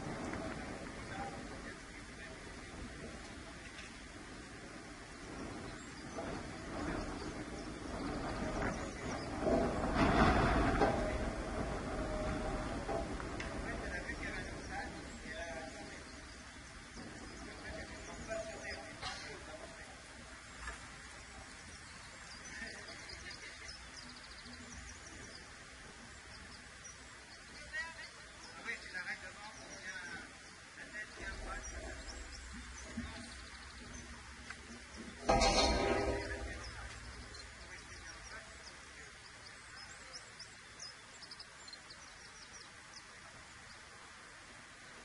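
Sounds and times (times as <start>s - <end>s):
birds chirping: 0.0s - 45.0s
faint outdoor background noise: 0.0s - 45.0s.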